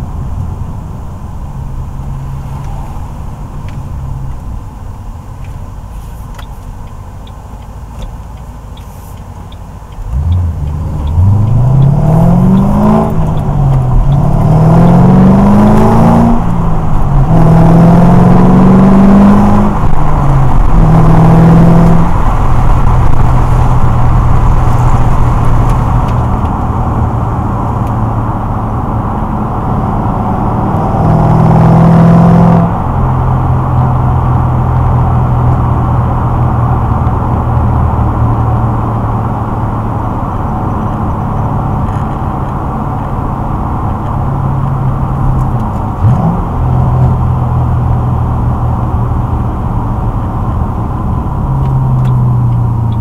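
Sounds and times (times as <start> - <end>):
car engine accelerating through gears: 5.4 - 53.0.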